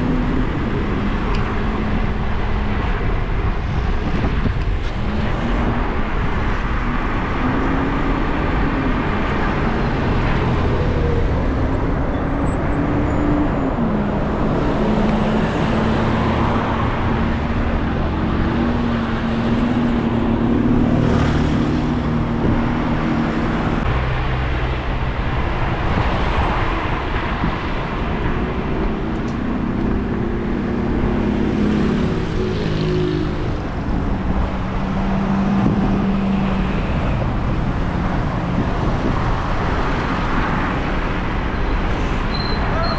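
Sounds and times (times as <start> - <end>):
car engines humming: 0.0 - 42.9
road noise: 0.0 - 42.9.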